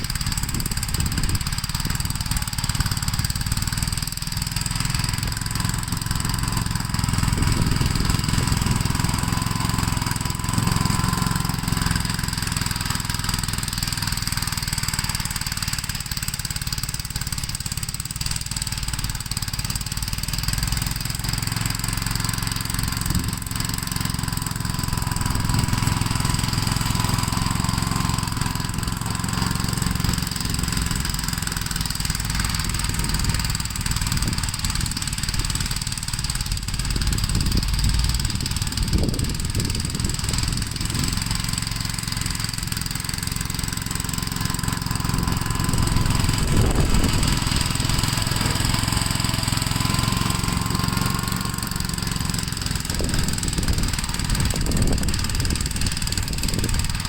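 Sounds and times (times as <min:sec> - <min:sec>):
single-cylinder tractor engine running: 0:00.0 - 0:57.0.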